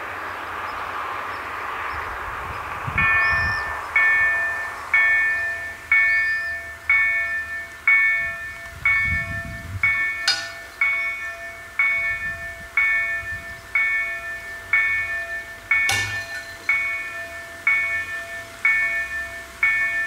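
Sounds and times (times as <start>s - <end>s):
level crossing warning bell: 3.0s - 20.0s.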